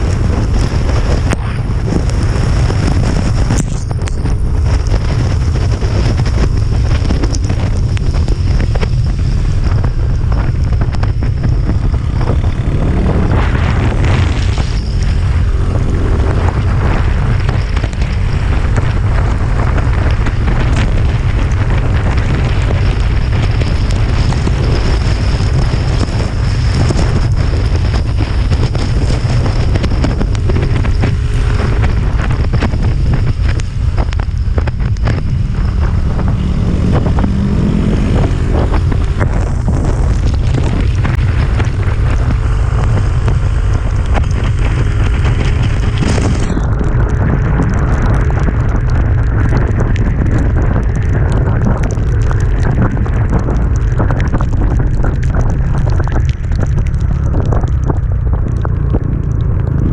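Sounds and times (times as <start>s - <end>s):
motorcycle engine: 0.0s - 59.9s
road and rain noise: 0.0s - 59.9s
wind buffeting microphone: 0.0s - 59.9s.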